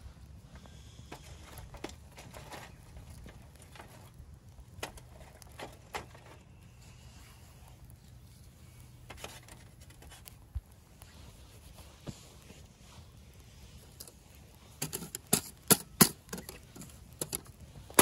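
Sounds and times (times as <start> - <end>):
low steady rumble: 0.0 - 15.2
twig fire crackling: 0.0 - 18.0.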